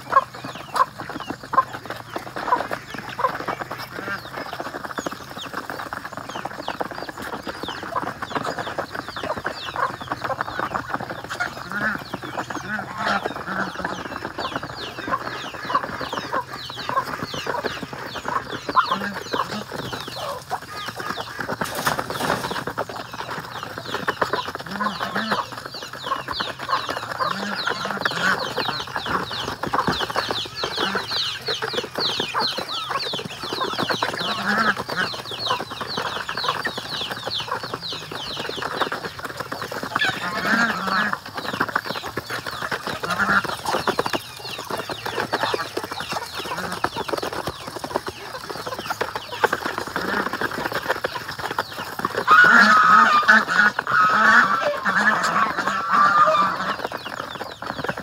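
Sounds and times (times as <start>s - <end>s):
ducks pecking and clucking: 0.0s - 58.0s.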